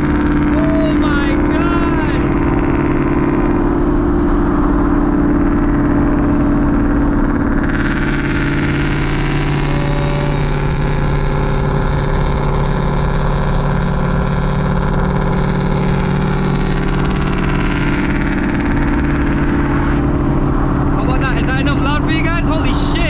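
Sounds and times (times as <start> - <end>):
car engine droning at cruise: 0.0 - 23.0.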